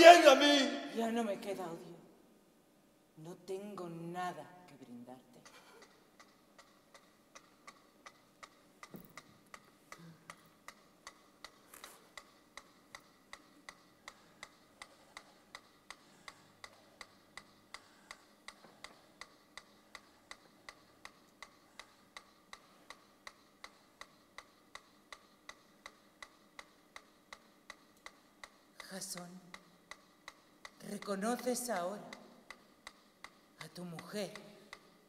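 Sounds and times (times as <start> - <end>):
faint steady ticking: 4.9 - 35.0.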